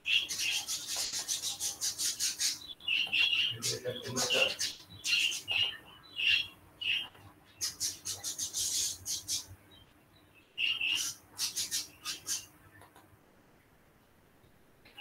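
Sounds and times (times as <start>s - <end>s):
small bird chirping: 0.0s - 13.0s
faint steady hum: 0.0s - 15.0s.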